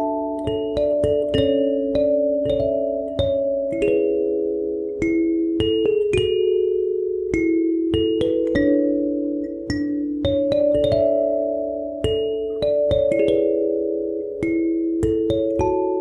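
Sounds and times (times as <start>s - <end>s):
gentle keyboard chords: 0.0s - 16.0s.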